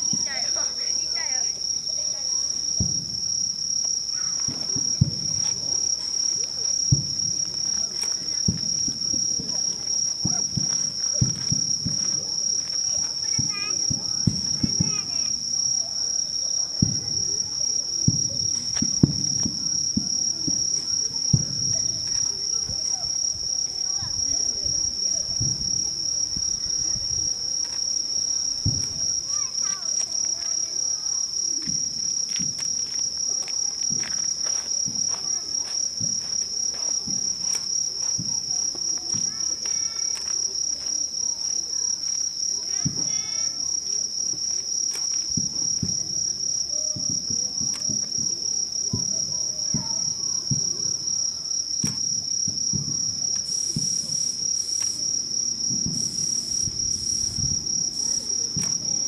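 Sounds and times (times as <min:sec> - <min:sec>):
distant fireworks thuds: 0:00.0 - 0:15.9, 0:16.7 - 0:40.4, 0:42.6 - 0:43.5, 0:44.3 - 0:51.2, 0:51.8 - 0:59.0
crickets trilling: 0:00.0 - 0:59.0.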